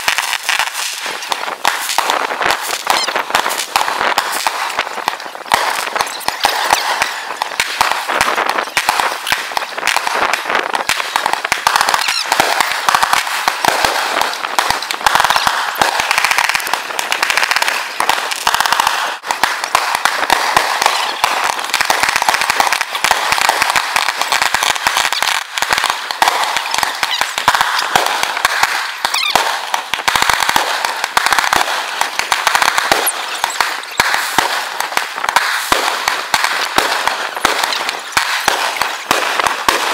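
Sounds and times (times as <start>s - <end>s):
fireworks cracking and popping: 0.0s - 39.9s.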